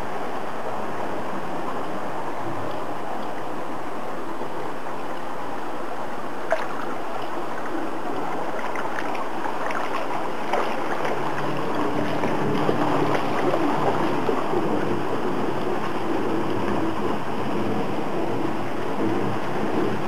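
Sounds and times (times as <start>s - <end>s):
faint wavering hum: 0.0s - 20.0s
flowing water with splashes: 0.0s - 20.0s.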